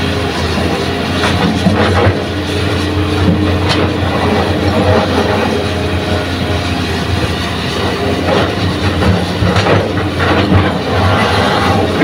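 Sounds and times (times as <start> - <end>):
diesel engine drone: 0.0 - 12.0.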